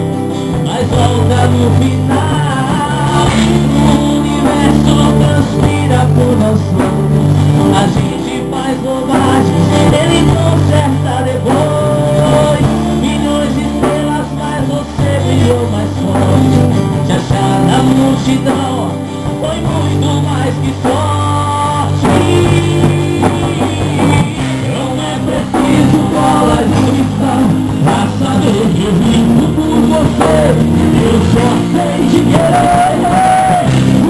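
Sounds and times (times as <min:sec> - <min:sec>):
drum kit: 0:00.0 - 0:34.0
man singing: 0:00.0 - 0:34.0
strummed acoustic guitar: 0:00.0 - 0:34.0.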